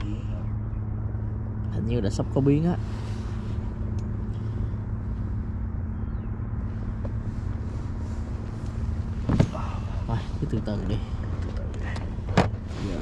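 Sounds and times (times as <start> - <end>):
background rumble: 0.0 - 13.0
low mechanical hum: 0.0 - 13.0.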